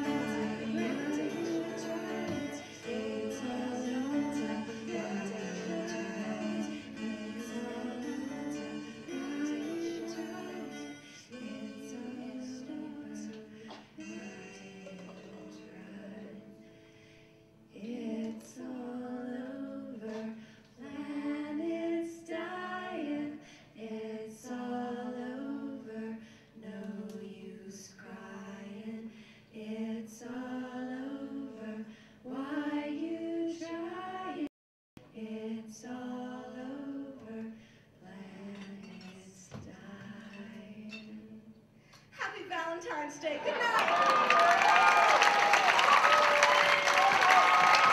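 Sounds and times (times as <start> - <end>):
women singing in harmony: 0.0 - 41.8.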